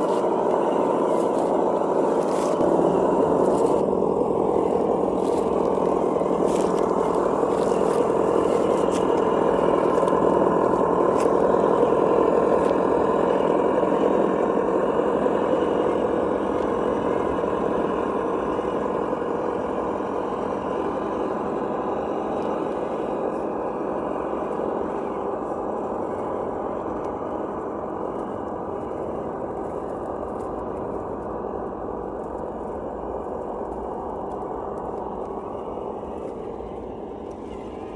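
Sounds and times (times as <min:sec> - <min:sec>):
simulated engine sound from speaker: 0:00.0 - 0:37.9.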